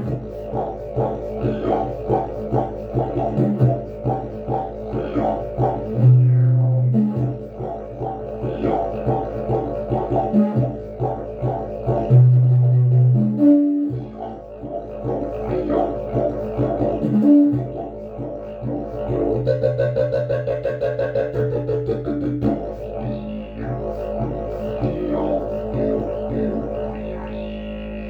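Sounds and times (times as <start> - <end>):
didgeridoo horn-like toot: 0.0 - 28.0
didgeridoo rhythmic drone: 0.0 - 28.0.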